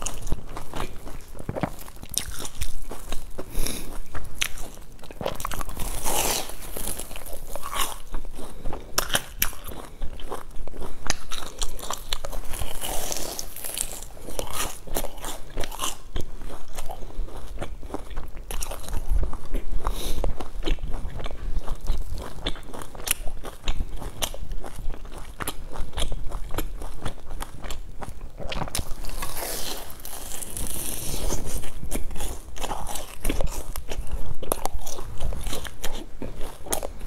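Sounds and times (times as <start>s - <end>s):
person chewing crunchy bun: 0.0s - 37.0s.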